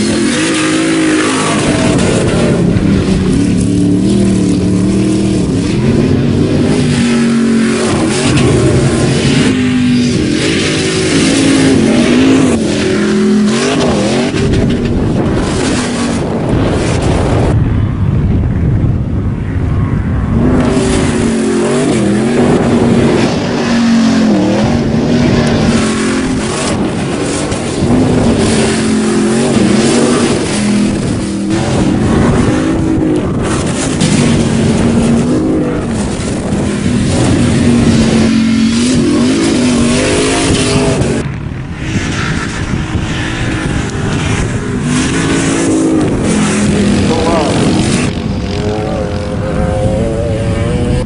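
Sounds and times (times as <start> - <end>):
truck engine revving hard: 0.0 - 17.6, 20.2 - 51.0
constant rushing noise: 0.0 - 51.0.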